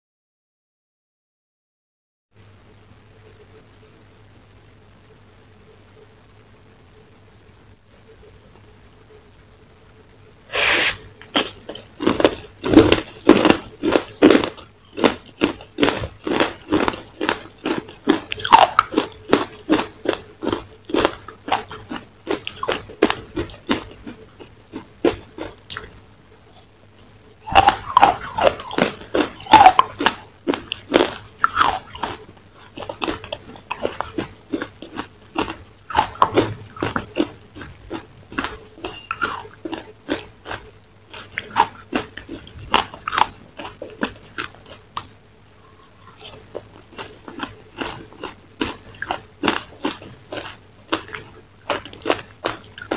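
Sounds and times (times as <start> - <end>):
crunchy biting and chewing: 10.5 - 52.9.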